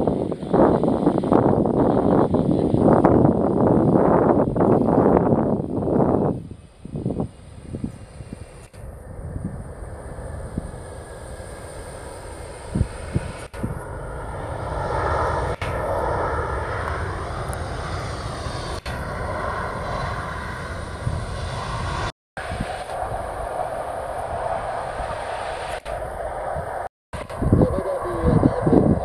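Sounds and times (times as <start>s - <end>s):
jet engine whine: 0.0s - 29.0s
jet engines roaring: 0.0s - 29.0s.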